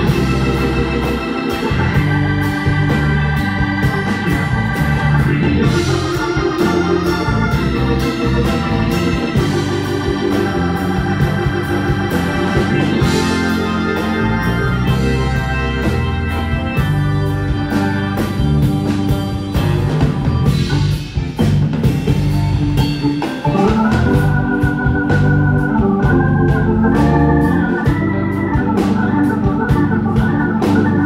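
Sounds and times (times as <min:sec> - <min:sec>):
instrumental live band music: 0:00.0 - 0:31.0
organ: 0:00.0 - 0:31.0.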